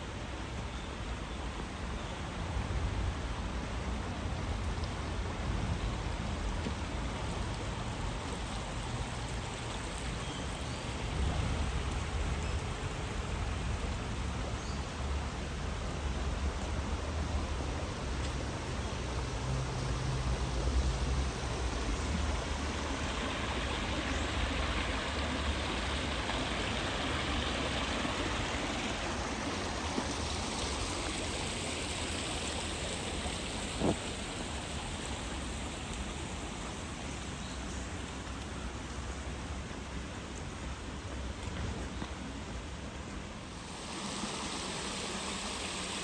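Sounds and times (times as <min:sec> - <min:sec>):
stream flowing: 0:00.0 - 0:41.5, 0:42.2 - 0:46.0.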